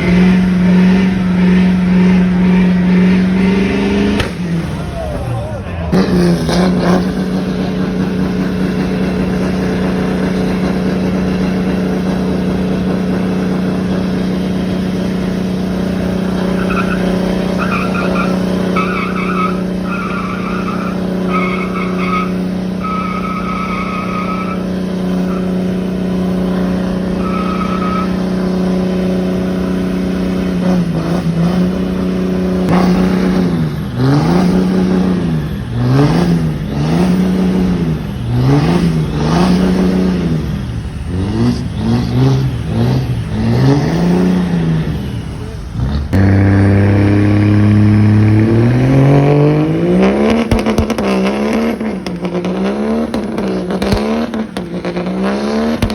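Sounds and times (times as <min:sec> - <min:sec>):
tires squealing: 0:00.0 - 0:55.9
truck engine revving: 0:00.0 - 0:55.9.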